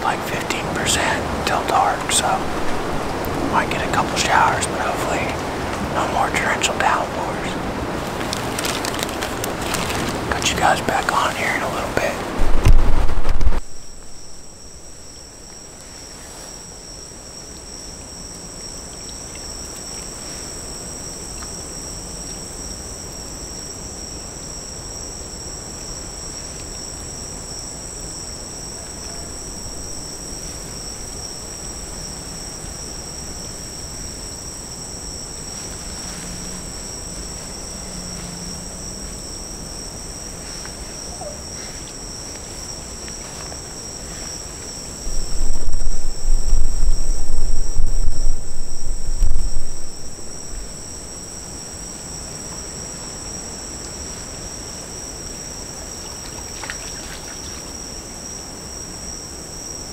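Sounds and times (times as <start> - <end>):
faint low hiss: 0.0 - 59.9
insects trilling: 0.0 - 59.9.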